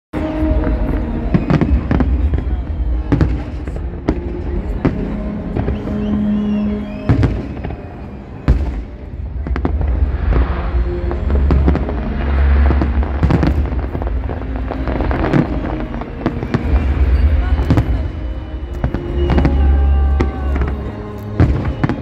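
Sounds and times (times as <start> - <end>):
music playing: 0.1 - 22.0
fireworks bursting: 0.2 - 22.0.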